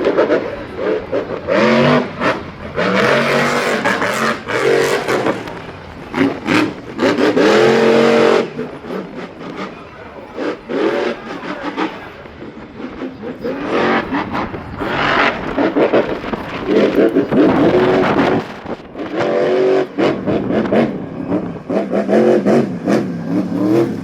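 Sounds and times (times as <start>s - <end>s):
racing engine revving hard: 0.0s - 24.0s.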